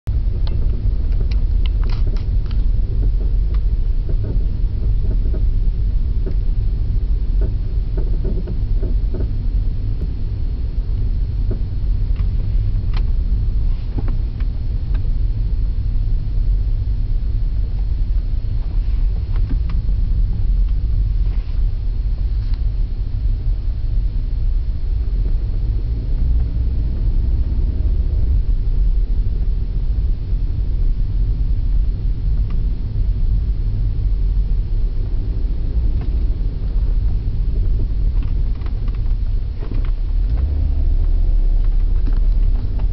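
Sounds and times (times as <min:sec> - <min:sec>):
low car rumble: 0:00.0 - 0:42.9.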